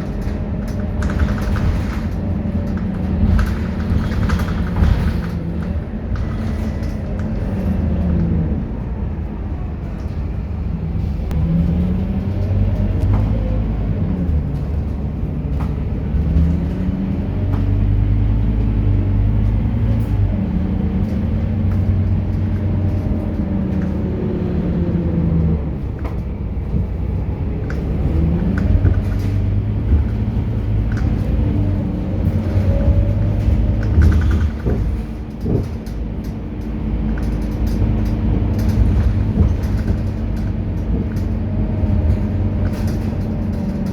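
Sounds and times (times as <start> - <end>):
bus diesel engine running: 0.0 - 43.9
steady low rumble: 0.0 - 43.9.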